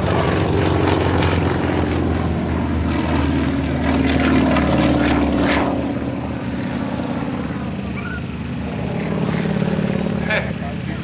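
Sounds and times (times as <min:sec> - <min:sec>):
propeller plane droning overhead: 0:00.0 - 0:11.0.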